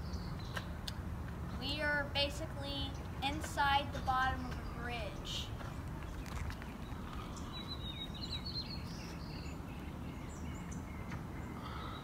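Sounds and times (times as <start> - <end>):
small songbird chirping: 0.0 - 0.9, 2.7 - 12.0.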